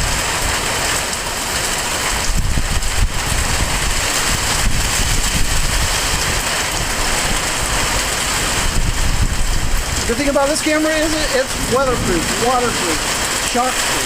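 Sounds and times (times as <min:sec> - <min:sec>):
rain falling: 0:00.0 - 0:14.0
wind buffeting microphone: 0:00.0 - 0:14.0.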